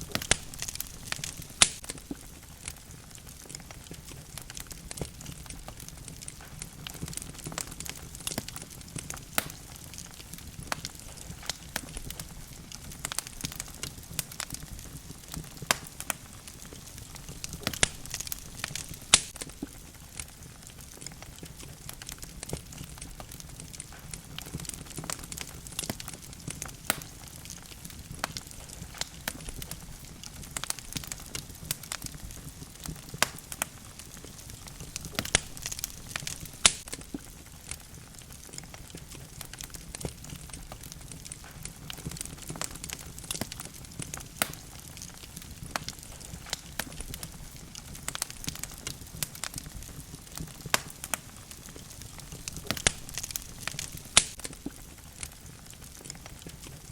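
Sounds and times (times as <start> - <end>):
fire crackling and popping: 0.0 - 56.9
low rumble of flames: 0.0 - 56.9.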